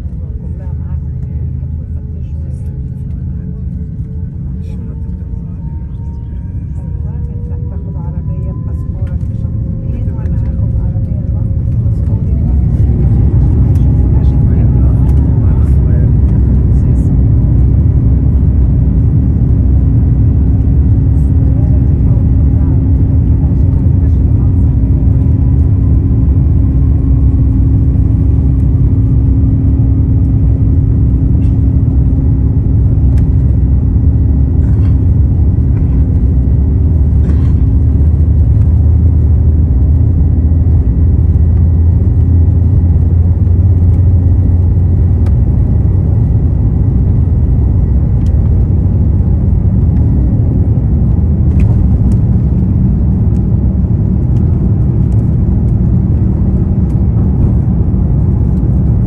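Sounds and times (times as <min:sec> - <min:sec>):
jet engines and wheels rumbling: 0:00.0 - 0:59.0.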